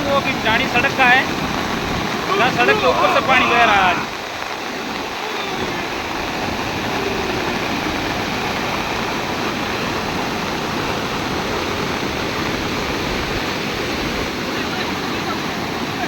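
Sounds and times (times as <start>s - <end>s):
heavy rain: 0.0s - 16.0s
rainwater rushing across road: 0.0s - 16.0s.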